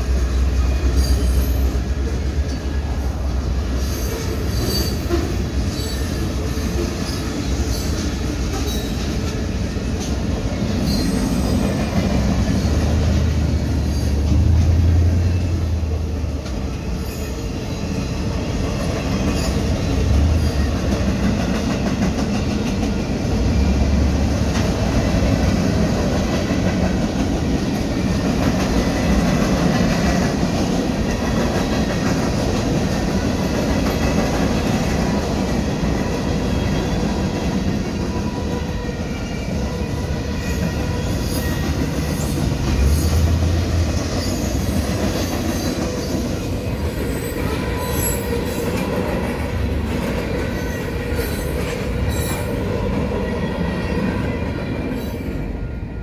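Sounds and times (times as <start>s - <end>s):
freight cars rolling on rails: 0.0s - 55.9s.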